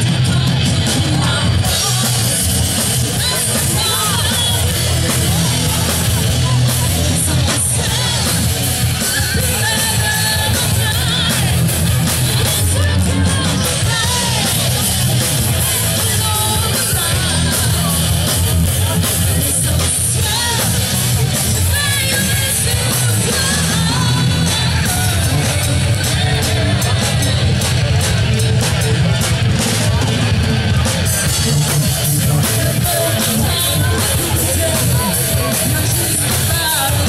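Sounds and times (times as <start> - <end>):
person singing into microphone: 0.0 - 29.2, 31.1 - 37.0
drums: 0.0 - 37.0
electric guitars: 0.0 - 37.0.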